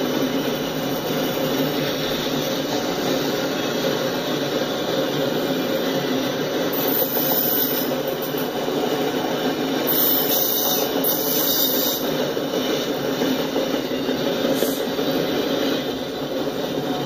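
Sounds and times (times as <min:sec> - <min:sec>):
steel wheels running on rails: 0:00.0 - 0:17.0.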